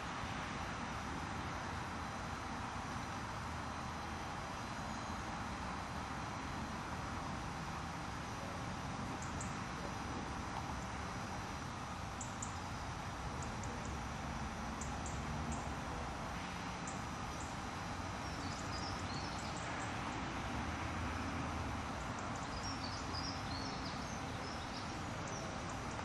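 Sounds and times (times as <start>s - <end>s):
outdoor noise: 0.0s - 26.0s.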